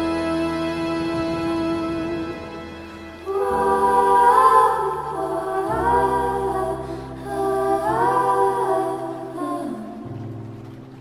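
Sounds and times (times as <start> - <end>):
wordless choir-like melody: 0.0 - 11.0.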